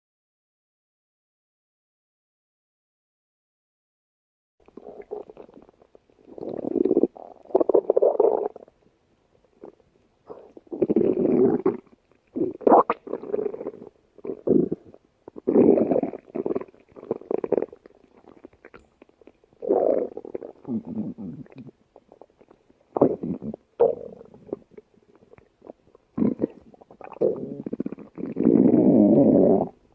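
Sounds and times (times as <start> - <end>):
stomach growling: 4.6 - 8.8, 9.6 - 29.8.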